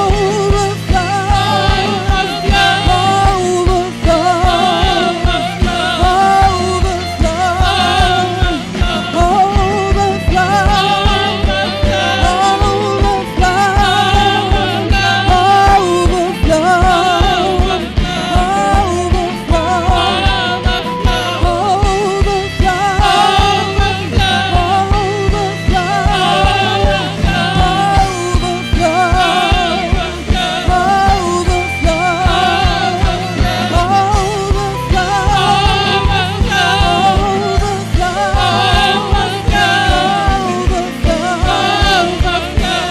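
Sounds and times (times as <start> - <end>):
keyboard: 0.0 - 42.9
steady drum beat: 0.0 - 42.9
woman singing: 0.0 - 42.9.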